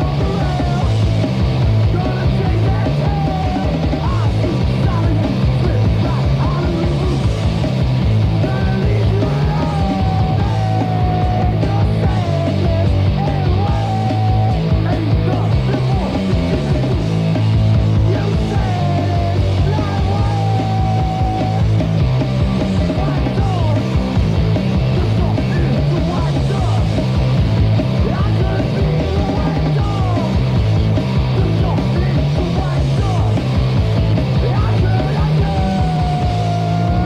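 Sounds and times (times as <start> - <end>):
high melodic guitar line: 0.0 - 37.0
punk rock band playing: 0.0 - 37.0.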